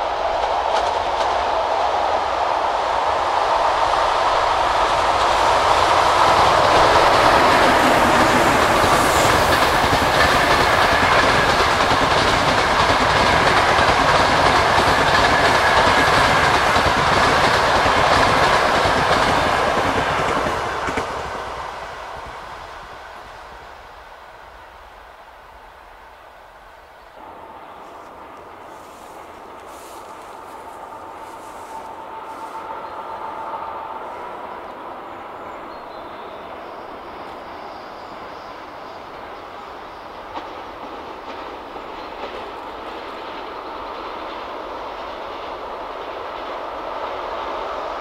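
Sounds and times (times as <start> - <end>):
train wheels rattling over rails: 0.0 - 23.5, 27.4 - 48.0.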